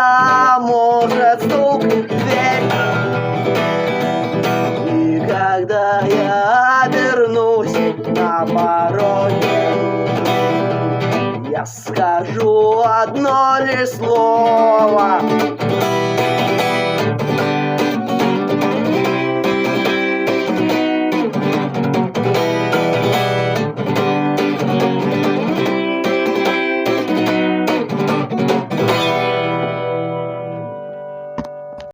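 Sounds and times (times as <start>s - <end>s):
guitar strumming chords: 0.0s - 31.9s.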